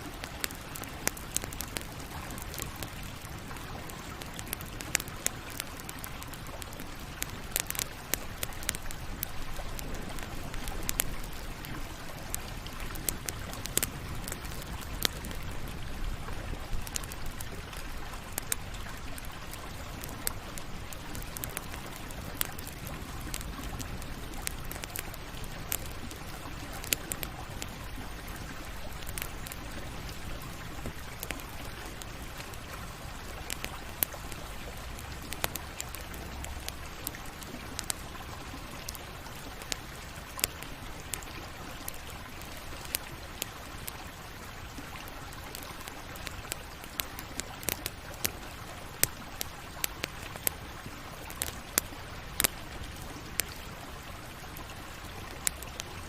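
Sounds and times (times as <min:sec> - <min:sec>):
campfire crackling and popping: 0:00.0 - 0:56.0
soft fire hiss: 0:00.0 - 0:56.0.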